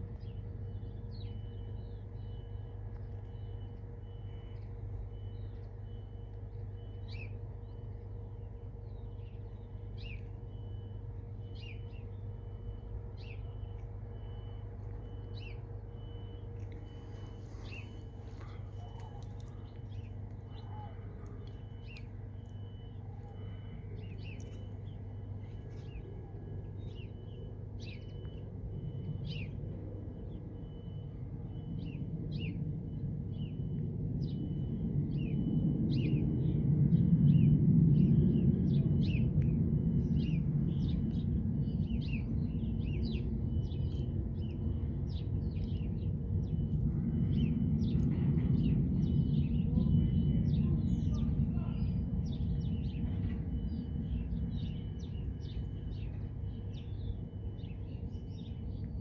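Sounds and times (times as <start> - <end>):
birds chirping: 0.0 - 36.2, 40.0 - 59.0
low rumble: 0.0 - 59.0.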